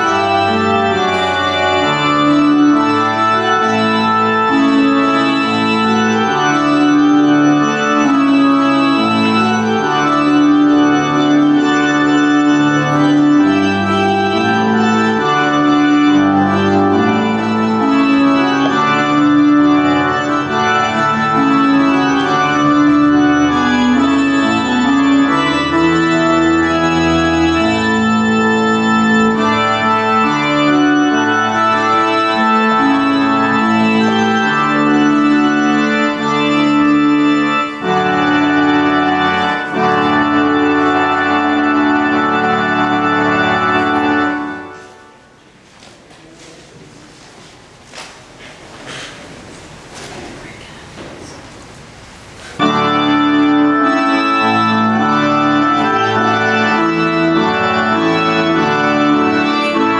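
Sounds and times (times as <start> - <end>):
organ chords: 0.0 - 45.6, 51.3 - 59.9.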